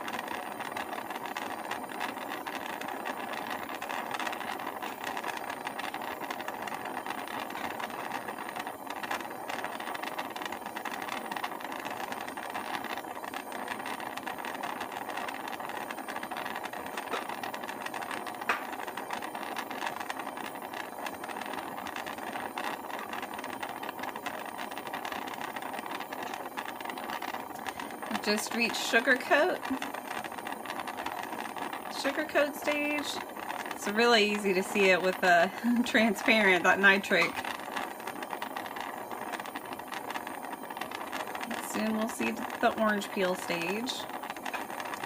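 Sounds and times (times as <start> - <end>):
gas torch flame hissing: 0.0 - 45.0.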